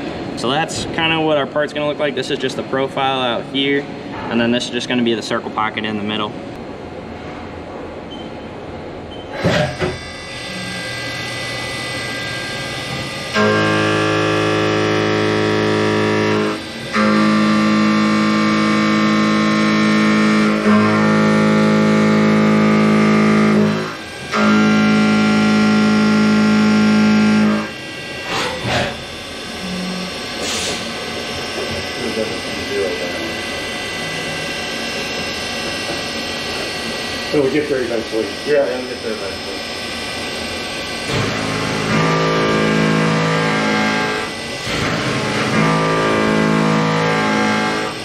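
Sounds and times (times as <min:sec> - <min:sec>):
milling machine cutting whine: 0:07.6 - 0:48.0.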